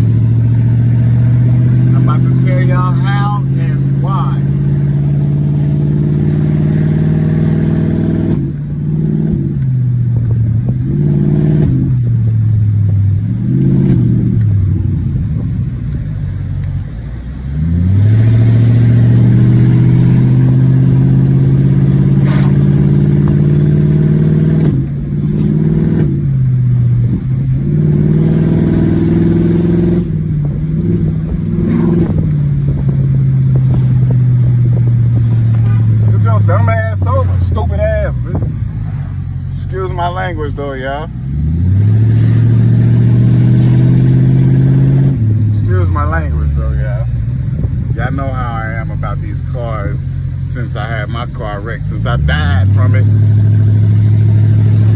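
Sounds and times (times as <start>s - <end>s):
car engine from inside cabin: 0.0s - 54.9s.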